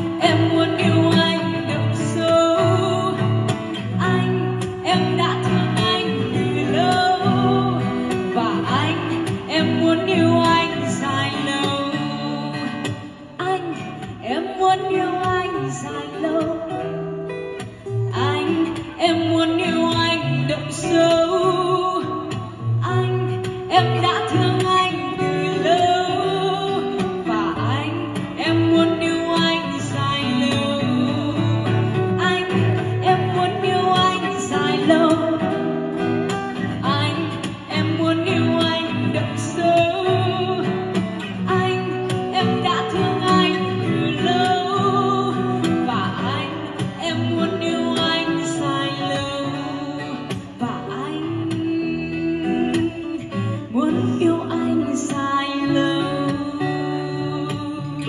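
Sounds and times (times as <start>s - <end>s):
amplified acoustic guitar music: 0.0s - 58.0s.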